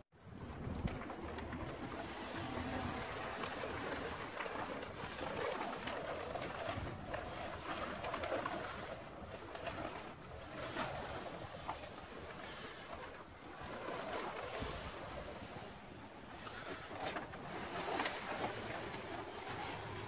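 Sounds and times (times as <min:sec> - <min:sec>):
plastic tarp rustling: 0:00.2 - 0:20.0
wind noise on microphone: 0:00.2 - 0:20.0.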